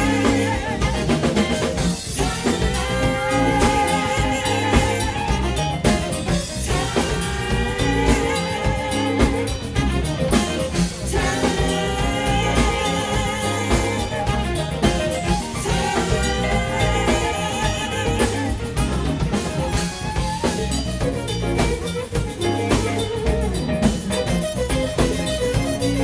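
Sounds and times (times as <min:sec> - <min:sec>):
drum kit: 0:00.0 - 0:26.0
guitar: 0:00.0 - 0:26.0
live soul band playing: 0:00.0 - 0:26.0
person singing: 0:00.0 - 0:26.0.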